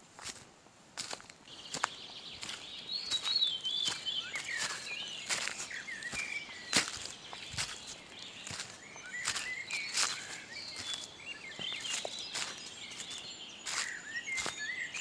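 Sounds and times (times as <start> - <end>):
footsteps on forest floor: 0.0 - 15.0
small birds chirping: 1.0 - 15.0.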